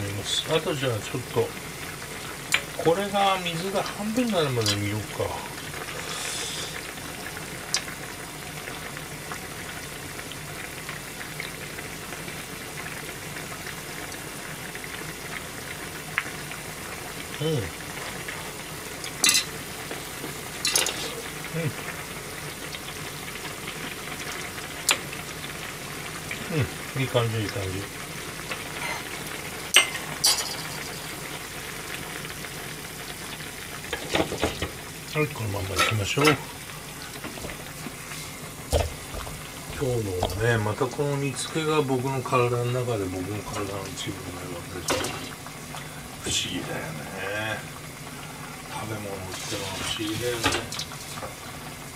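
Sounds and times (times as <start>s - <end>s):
broth simmering bubbling hiss: 0.0s - 51.9s.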